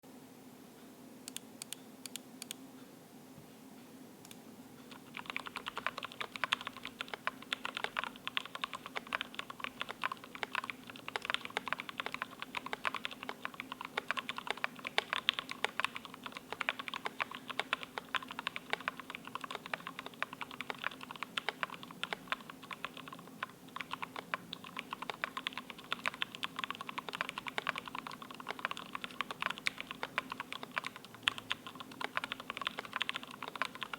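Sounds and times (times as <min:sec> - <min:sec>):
mechanical keyboard typing: 0:04.9 - 0:33.9.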